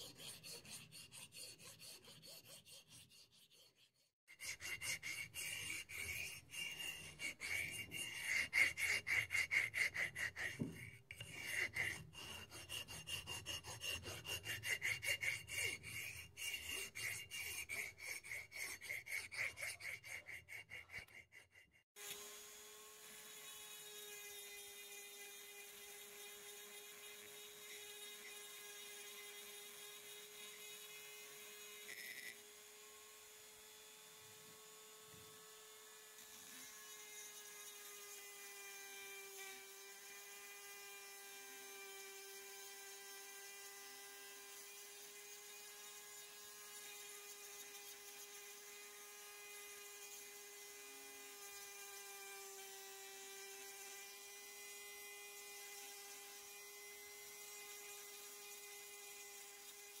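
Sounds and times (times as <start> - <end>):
rotary tool grinding stone: 0.0 - 33.2, 34.6 - 60.0.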